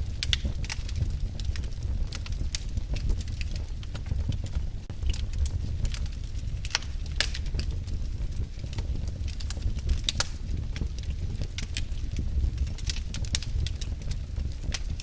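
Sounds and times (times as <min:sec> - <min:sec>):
low rumble of burning fire: 0:00.0 - 0:15.0
wood fire snaps and pops: 0:00.0 - 0:15.0.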